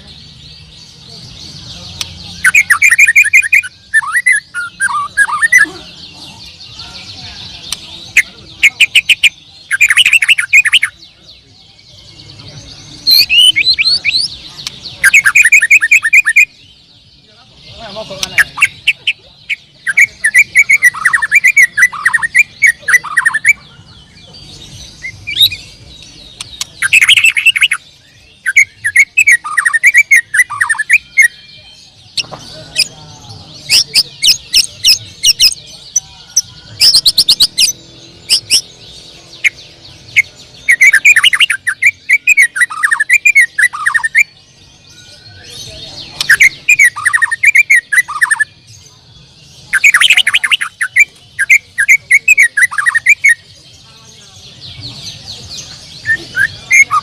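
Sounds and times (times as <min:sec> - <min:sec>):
songbird whistling and chattering: 0:00.0 - 0:16.9, 0:17.6 - 0:57.0.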